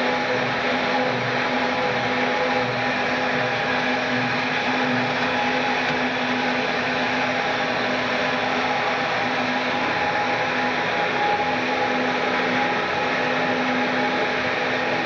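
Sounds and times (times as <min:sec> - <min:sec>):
grinder motor hum: 0:00.0 - 0:15.0.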